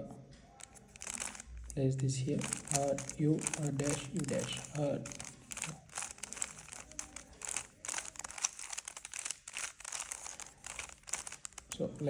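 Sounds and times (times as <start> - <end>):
puzzle cube twisting clicks: 0.6 - 12.0.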